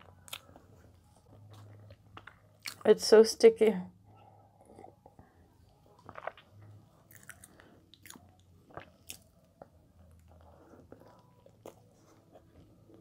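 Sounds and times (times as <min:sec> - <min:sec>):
person chewing bread: 0:00.0 - 0:02.8, 0:04.6 - 0:13.0.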